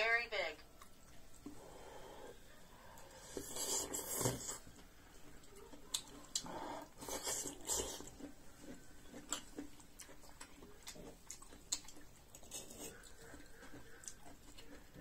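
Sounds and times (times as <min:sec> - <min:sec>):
chewing: 0:00.6 - 0:15.0.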